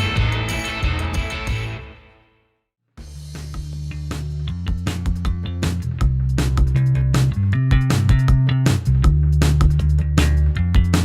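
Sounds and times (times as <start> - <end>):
music with bass line and drums: 0.0 - 2.2, 3.0 - 11.0
background music: 0.0 - 11.0.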